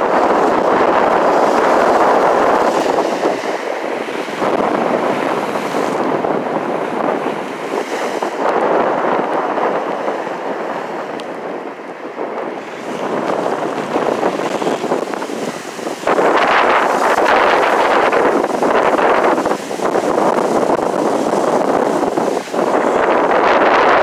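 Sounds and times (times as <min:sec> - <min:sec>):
waves splashing over rocks: 0:00.0 - 0:24.0
wind buffeting microphone: 0:00.0 - 0:24.0.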